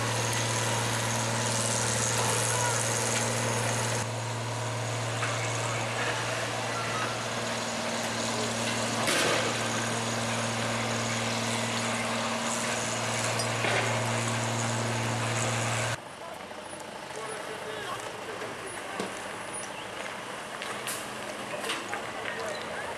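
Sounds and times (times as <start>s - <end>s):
diesel truck engine running: 0.0s - 22.9s.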